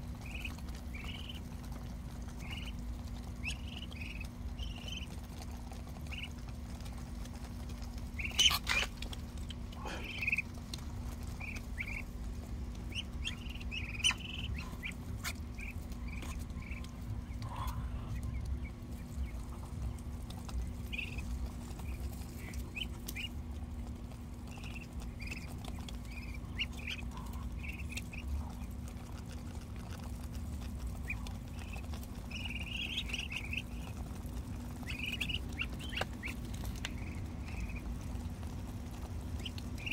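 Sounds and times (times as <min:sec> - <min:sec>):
ducklings peeping: 0:00.0 - 0:39.9
steady low hum: 0:00.0 - 0:39.9.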